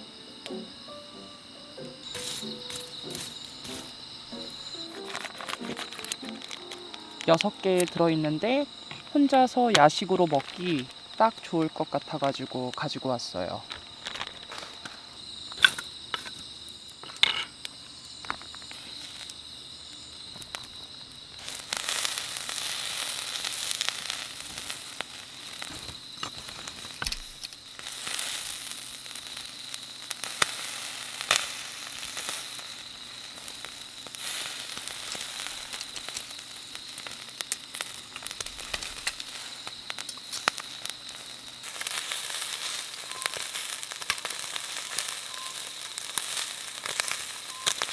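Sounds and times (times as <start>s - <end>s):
fire crackles: 0.0s - 47.9s
skewers sizzling on a grill: 0.0s - 47.9s.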